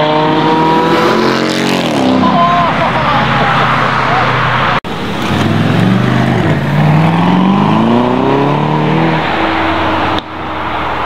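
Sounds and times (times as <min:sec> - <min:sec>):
car engine accelerating hard: 0:00.0 - 0:10.5.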